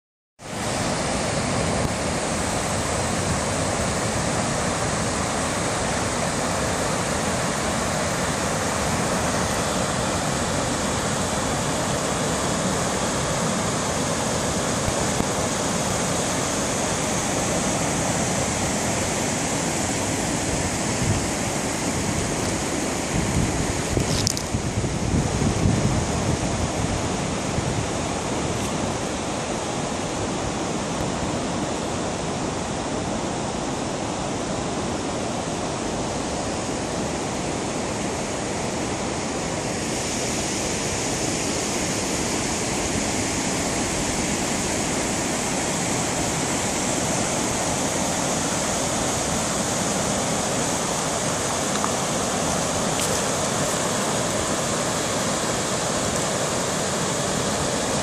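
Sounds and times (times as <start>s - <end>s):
river water rushing over stones: 0.4s - 58.0s.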